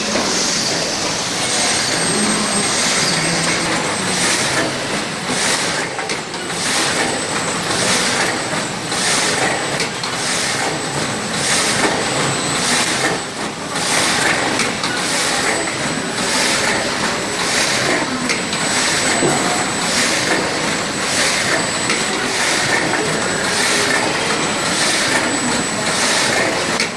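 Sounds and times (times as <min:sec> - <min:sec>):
high machine whine: 0:00.0 - 0:26.9
machine mechanical din: 0:00.0 - 0:26.9.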